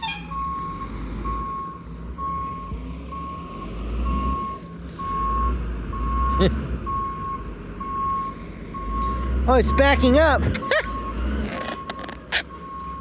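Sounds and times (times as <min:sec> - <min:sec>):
truck engine rumble: 0:00.0 - 0:13.0
truck reversing alarm beeping: 0:00.0 - 0:13.0.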